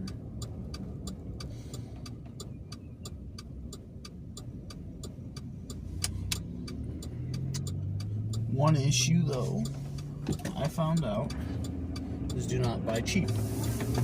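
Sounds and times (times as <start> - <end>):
fast regular ticking: 0.0 - 13.8
car engine and road rumble: 0.0 - 14.0.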